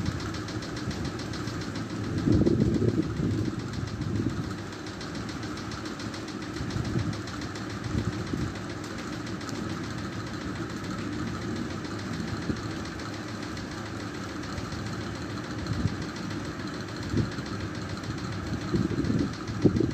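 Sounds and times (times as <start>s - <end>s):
low rumbling drone with fast pulsing: 0.0s - 19.9s.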